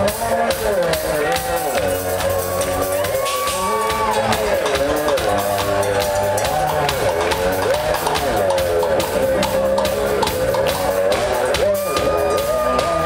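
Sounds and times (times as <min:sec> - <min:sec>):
bass guitar: 0:00.0 - 0:13.0
drum kit beat: 0:00.0 - 0:13.0
live rock band: 0:00.0 - 0:13.0
wavering lead melody: 0:01.2 - 0:13.0.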